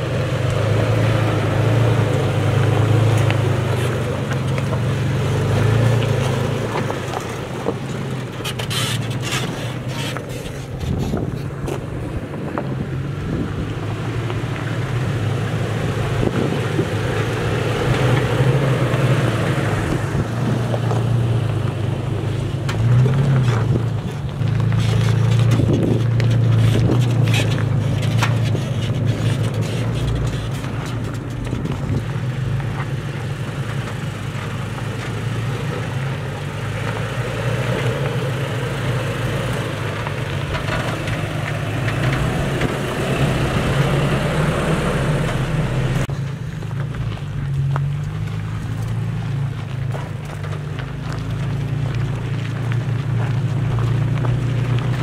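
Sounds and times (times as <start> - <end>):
pickup truck engine running: 0.0 - 55.0
stones crunching under tyres: 0.0 - 55.0.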